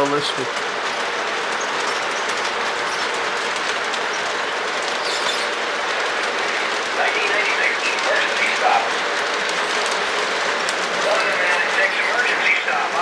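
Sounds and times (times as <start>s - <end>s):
model train wheels rattling on track: 0.0s - 13.0s.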